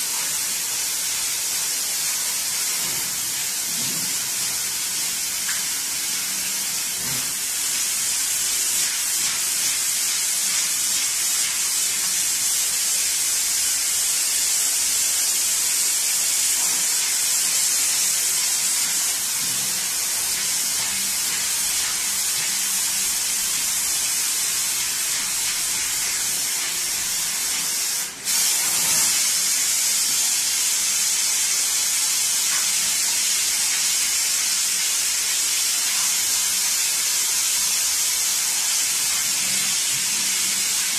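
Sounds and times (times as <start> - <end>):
water spraying from sink nozzle: 2.1 - 40.9.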